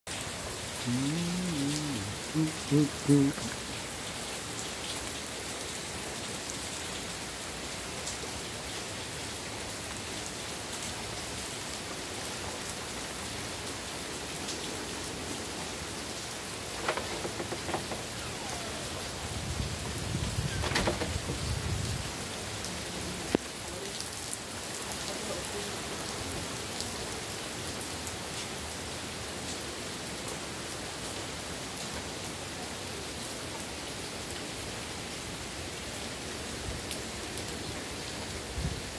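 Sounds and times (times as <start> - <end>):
heavy rain on street: 0.1 - 38.9.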